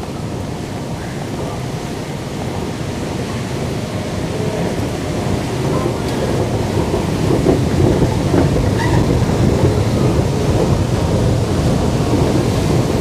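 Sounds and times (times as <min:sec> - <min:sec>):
escalator rumble: 0:00.0 - 0:13.0.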